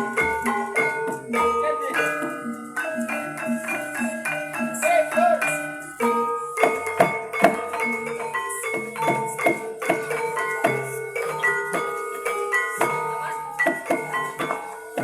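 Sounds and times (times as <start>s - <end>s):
drum strokes: 0.0s - 15.0s
mallet-struck tuned instruments: 0.0s - 15.0s.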